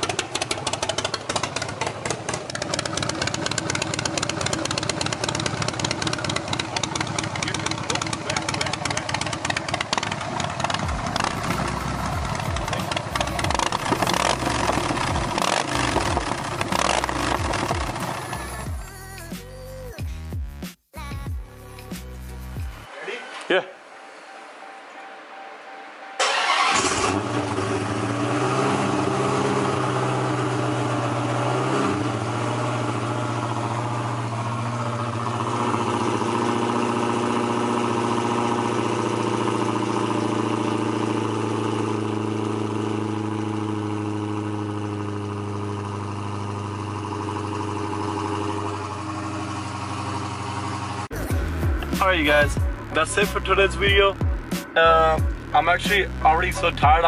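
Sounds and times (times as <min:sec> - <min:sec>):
car engine starting: 0:00.0 - 0:19.9, 0:24.2 - 0:57.0
car engine idling: 0:00.0 - 0:20.0, 0:26.2 - 0:57.0.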